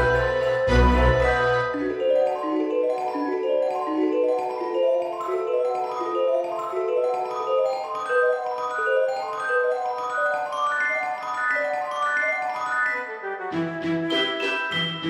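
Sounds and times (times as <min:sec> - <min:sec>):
mallet percussion melody: 0:00.0 - 0:13.1, 0:14.1 - 0:15.0.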